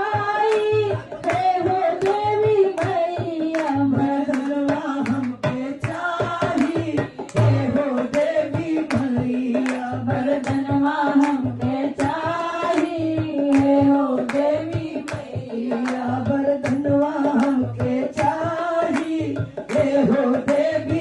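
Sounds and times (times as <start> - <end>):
women singing into microphones: 0.0 - 21.0
hand claps: 0.1 - 21.0.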